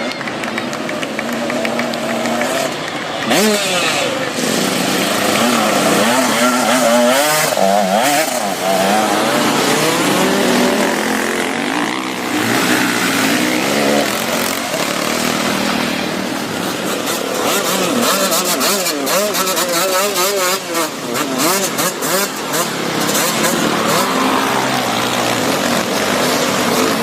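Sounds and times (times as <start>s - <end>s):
motorcycle engine revving: 0.4s - 27.0s.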